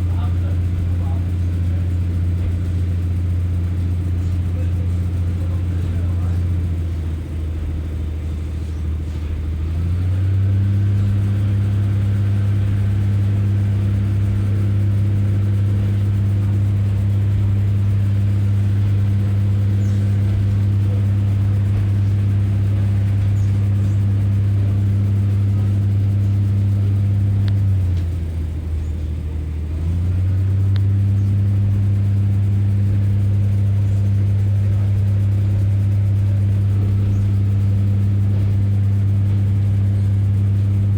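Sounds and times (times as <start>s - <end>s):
railcar diesel engine droning: 0.0s - 40.9s.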